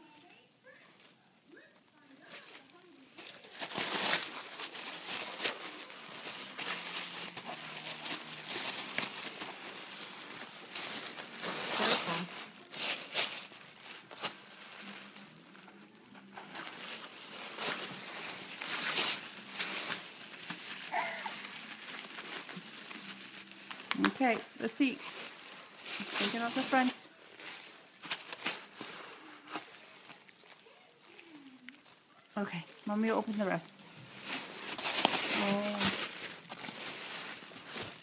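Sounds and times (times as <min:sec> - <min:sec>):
gift wrapping paper crinkling: 0:00.0 - 0:38.0.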